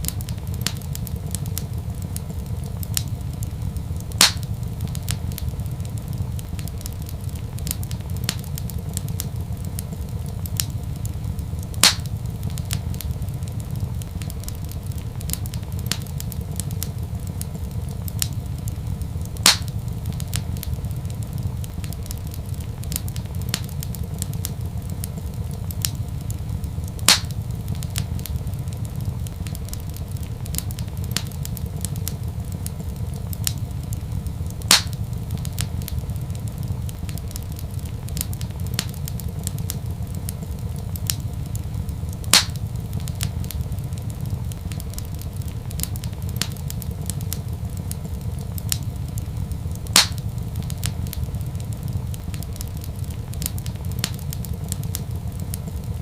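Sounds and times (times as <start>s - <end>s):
loud fire pops: 0.0s - 56.0s
low fire rumble: 0.0s - 56.0s
wood fire crackling: 0.0s - 56.0s.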